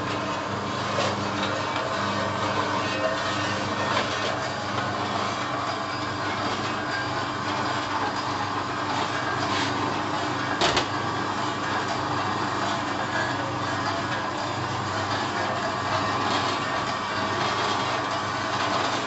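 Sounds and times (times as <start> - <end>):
machine motor hum: 0.0 - 19.0.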